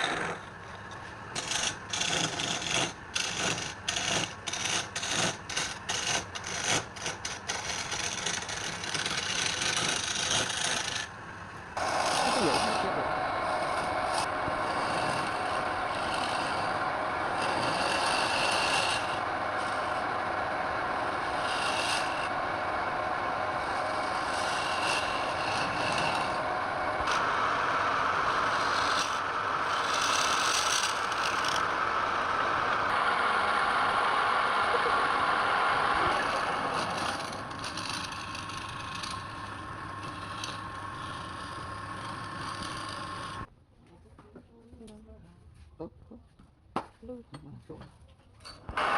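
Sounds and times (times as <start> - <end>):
turning tool scraping wood: 0.0 - 11.2, 11.8 - 31.8, 34.1 - 43.5
wood lathe running: 0.0 - 43.5.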